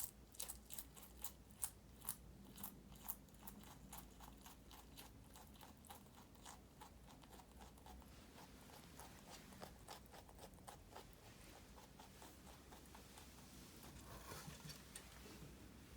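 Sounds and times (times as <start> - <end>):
rabbits chewing lettuce: 0.0 - 15.9.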